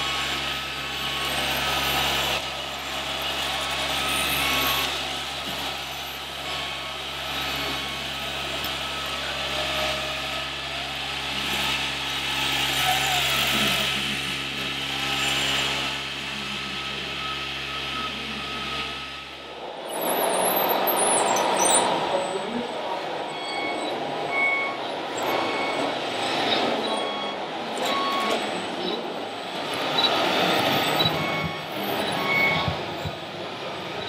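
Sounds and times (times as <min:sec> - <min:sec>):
toy loader electric whirr: 0:00.0 - 0:22.3, 0:23.2 - 0:34.0.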